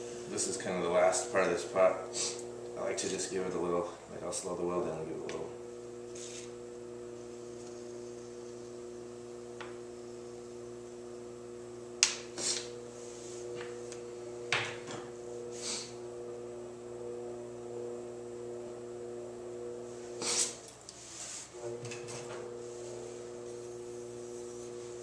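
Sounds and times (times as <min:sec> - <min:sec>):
potter's wheel motor humming: 0:00.0 - 0:25.0.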